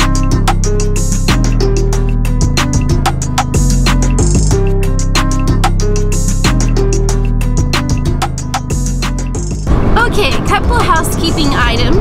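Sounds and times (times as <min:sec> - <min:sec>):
background music with steady beat: 0:00.0 - 0:09.7.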